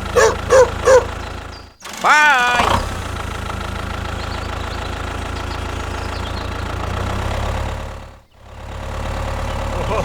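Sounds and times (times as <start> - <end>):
tractor engine idling: 0.0 - 10.0.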